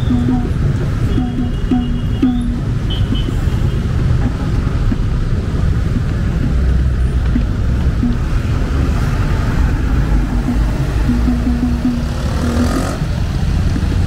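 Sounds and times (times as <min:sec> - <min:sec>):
vehicle engines rumbling: 0:00.0 - 0:14.0.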